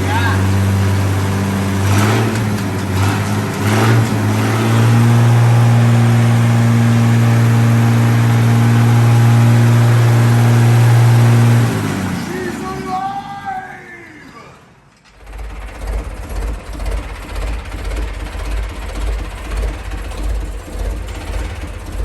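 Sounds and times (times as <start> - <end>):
gasoline engine running: 0.0 - 13.6, 15.1 - 22.0.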